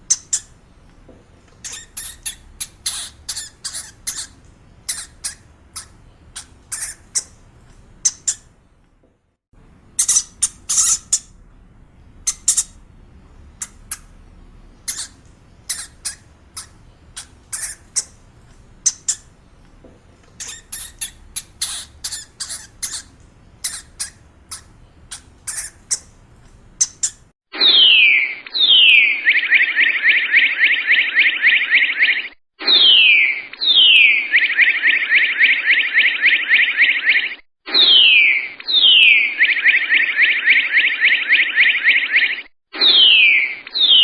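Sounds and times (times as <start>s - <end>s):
high-pitched animal chirps: 0.0s - 0.5s, 1.6s - 7.4s, 8.0s - 8.5s, 10.0s - 11.4s, 12.2s - 12.8s, 13.6s - 14.1s, 14.8s - 18.2s, 18.8s - 19.3s, 20.4s - 26.2s, 26.8s - 44.0s.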